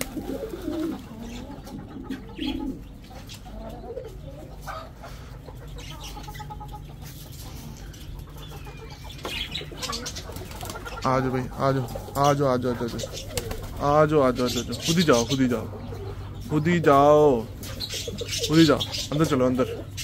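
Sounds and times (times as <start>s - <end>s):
chicken clucks: 0.0s - 20.0s
pigeons cooing: 0.0s - 20.0s
steady low hum: 0.0s - 20.0s.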